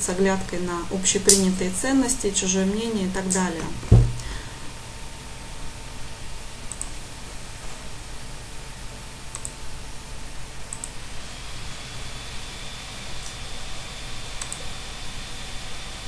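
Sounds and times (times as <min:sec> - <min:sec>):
microphone hiss: 0:00.0 - 0:16.0.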